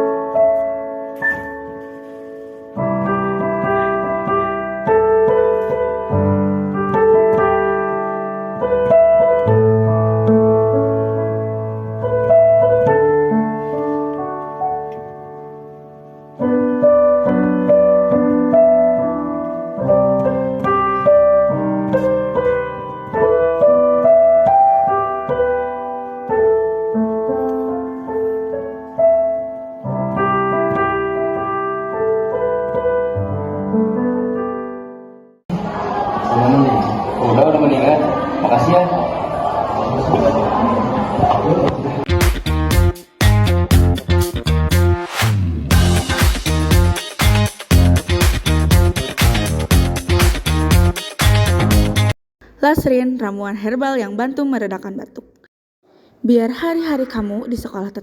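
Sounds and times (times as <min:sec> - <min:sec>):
slow piano music: 0:00.0 - 0:52.2.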